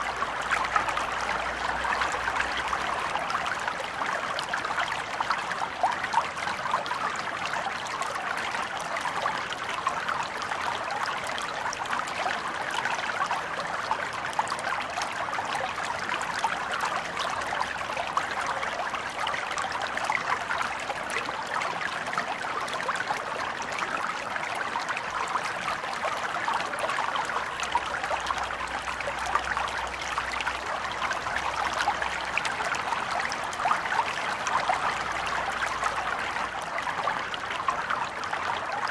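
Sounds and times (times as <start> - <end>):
stream bubbling over stones: 0.0 - 38.9.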